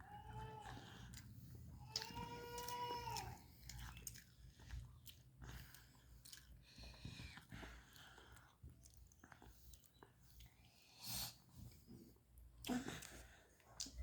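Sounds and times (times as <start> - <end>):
faint chewing: 0.1 - 14.0.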